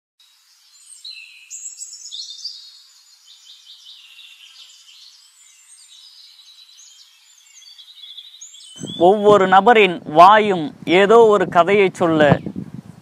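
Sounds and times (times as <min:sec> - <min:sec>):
birds chirping and trilling: 0:00.3 - 0:12.8.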